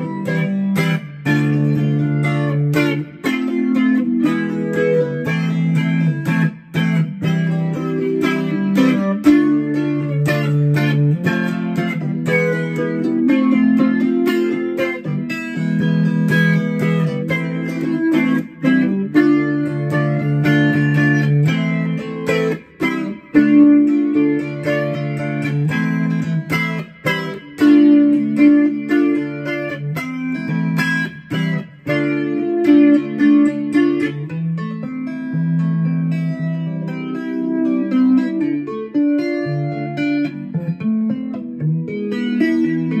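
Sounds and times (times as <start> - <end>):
electric ukulele strumming chords: 0.0 - 43.0.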